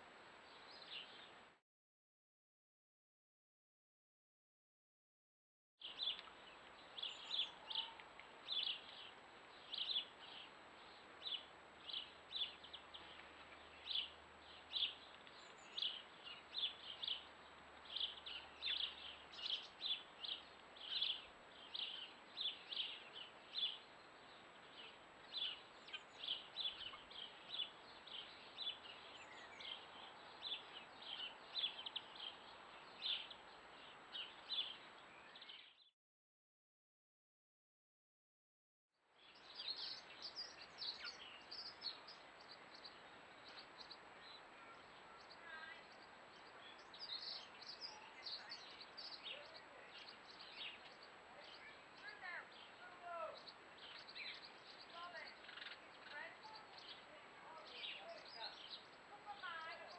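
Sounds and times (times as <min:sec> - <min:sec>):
soft outdoor hiss: 0:00.0 - 0:01.6, 0:05.8 - 0:35.9, 0:39.0 - 0:59.9
songbird chirping: 0:00.0 - 0:01.6, 0:05.8 - 0:35.9, 0:39.0 - 0:59.9.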